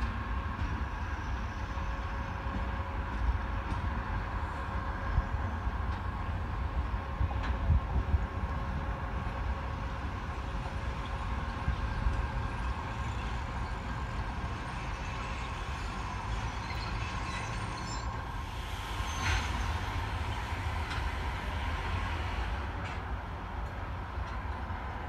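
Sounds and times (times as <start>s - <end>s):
distant passenger train rumble: 0.0s - 25.0s.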